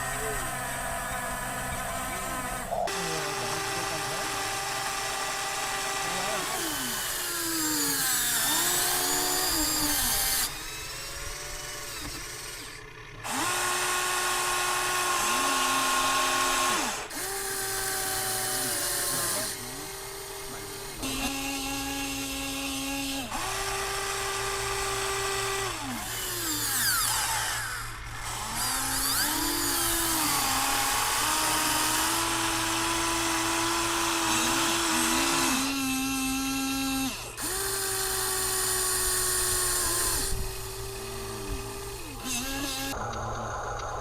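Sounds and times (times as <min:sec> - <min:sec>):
electric motors whining: 0:00.0 - 0:44.0.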